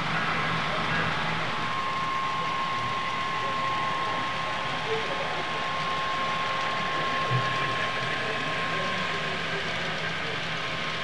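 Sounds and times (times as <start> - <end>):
model train whirring on track: 0.0 - 11.0
thin steady whine: 0.0 - 11.0.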